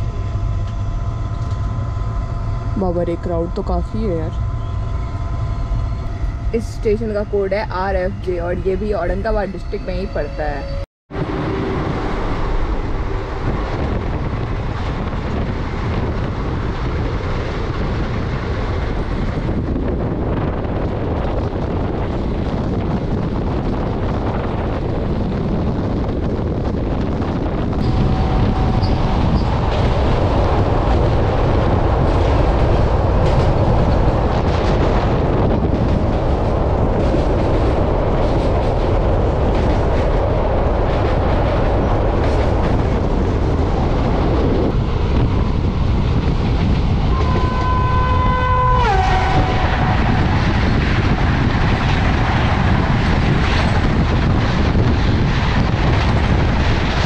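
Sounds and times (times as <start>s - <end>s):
train wheels rumbling on rails: 0.0s - 57.0s
rushing air: 11.1s - 57.0s.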